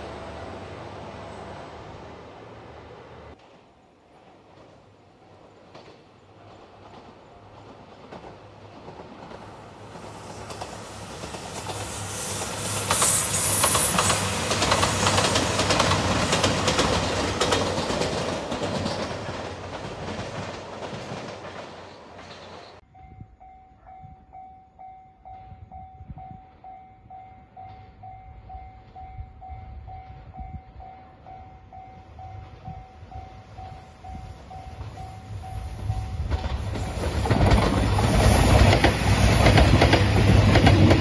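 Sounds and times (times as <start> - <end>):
train passing with wheel clatter: 0.0 - 41.0.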